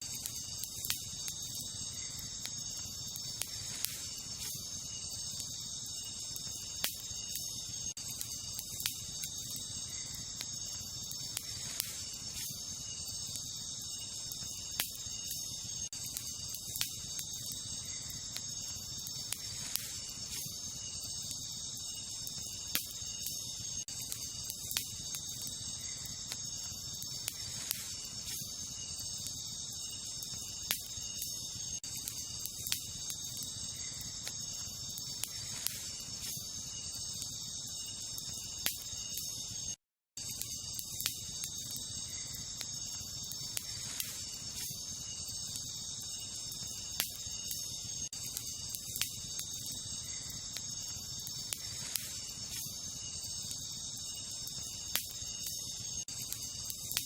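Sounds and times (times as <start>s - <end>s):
campfire crackling: 0.0s - 57.0s
night insects chorus: 0.0s - 57.0s.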